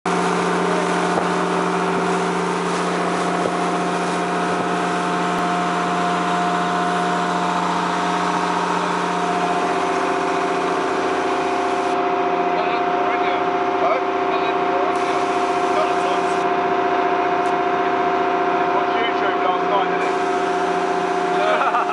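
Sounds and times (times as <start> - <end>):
boat engine droning: 0.0 - 21.9
water rushing from wake: 0.1 - 18.9, 19.8 - 21.9.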